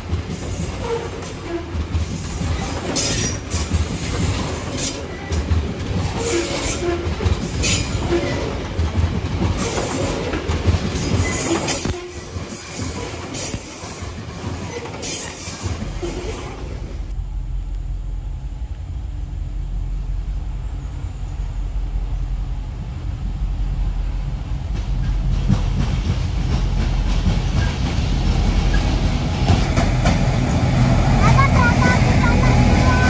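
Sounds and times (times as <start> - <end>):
train clattering: 0.0 - 33.0
train rumbling on rails: 0.0 - 33.0.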